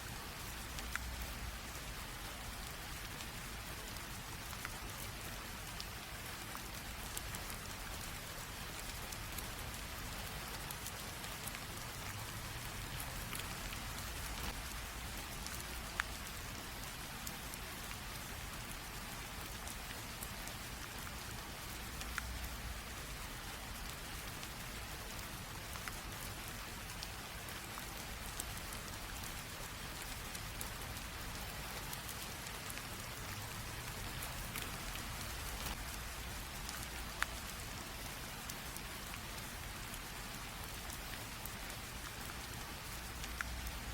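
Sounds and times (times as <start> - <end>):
light rain hissing: 0.0 - 43.9
raindrops ticking: 0.1 - 43.9.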